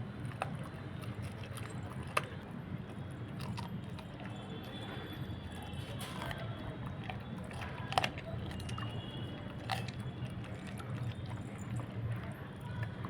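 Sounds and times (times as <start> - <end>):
puppy chewing meat: 0.0 - 13.0.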